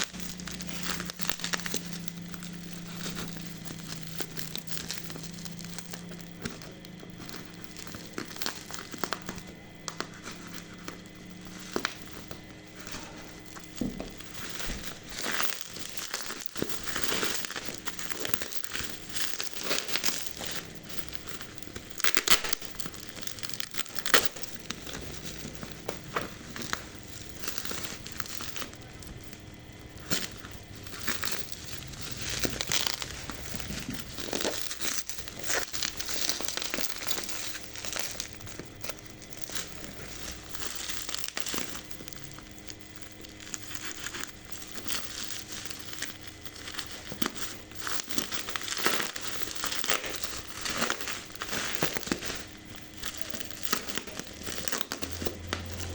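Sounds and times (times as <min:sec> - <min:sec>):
plastic wrap crinkling: 0:00.0 - 0:55.9.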